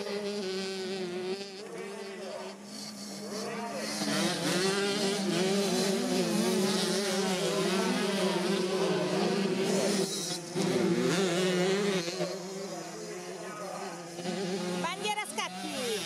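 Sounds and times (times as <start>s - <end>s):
motorcycles revving while racing: 0.0s - 16.0s.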